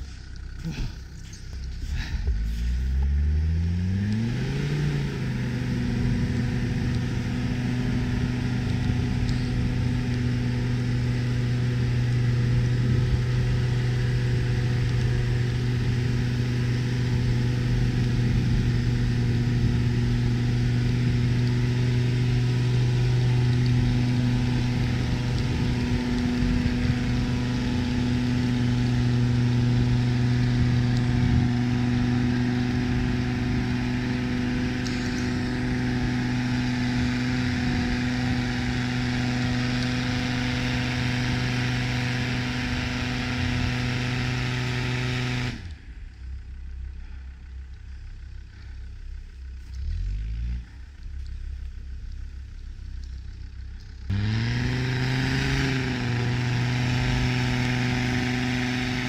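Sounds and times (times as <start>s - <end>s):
diesel engine revving: 0.0s - 59.0s
wheels spinning in snow: 0.0s - 59.0s.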